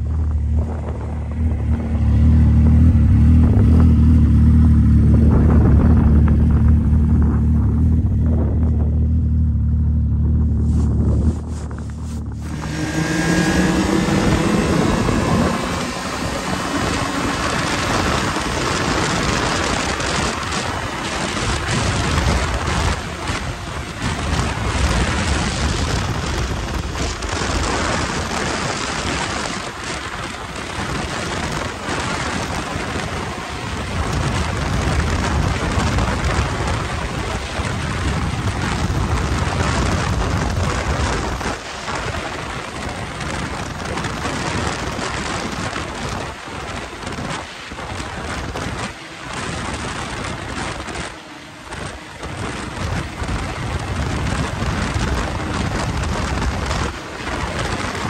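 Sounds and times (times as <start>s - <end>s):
snowmobile engine and track: 0.0s - 58.0s
wind buffeting microphone: 0.0s - 58.0s.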